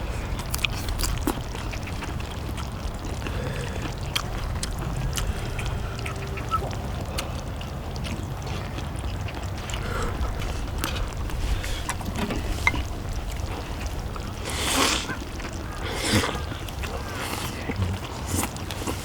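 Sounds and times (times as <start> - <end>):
steady low rumble: 0.0 - 18.7
chewing: 0.0 - 19.0.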